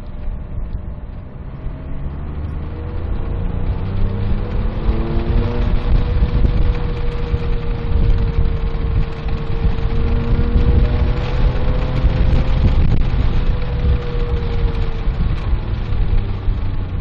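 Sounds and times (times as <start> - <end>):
car engine pulling: 0.0 - 17.0
road and wind noise: 0.0 - 17.0.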